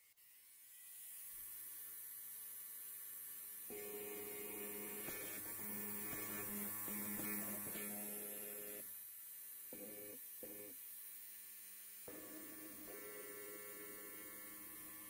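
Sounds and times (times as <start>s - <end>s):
electric hair clipper buzzing: 0.0s - 11.0s, 12.0s - 15.0s.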